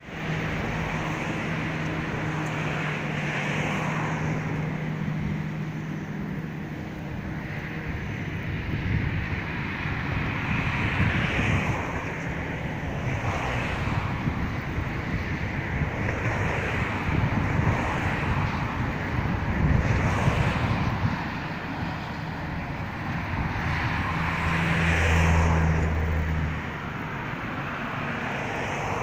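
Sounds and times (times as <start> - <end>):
boat engine humming: 0.0 - 29.0
rushing water: 0.0 - 29.0
wind buffeting microphone: 0.0 - 29.0.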